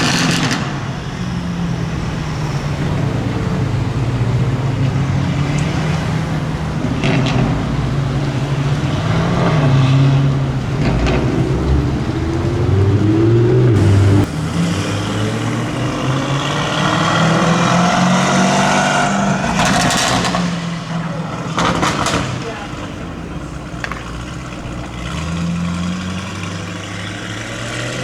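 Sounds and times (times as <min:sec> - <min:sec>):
car engine revving: 0:00.0 - 0:28.0
sharp exhaust cracks: 0:00.0 - 0:28.0.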